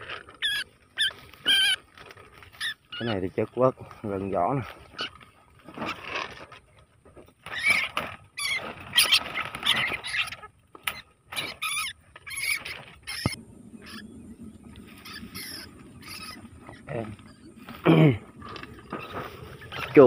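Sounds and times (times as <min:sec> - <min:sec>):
rats squealing: 0:00.0 - 0:03.6, 0:04.8 - 0:06.0, 0:07.4 - 0:20.0.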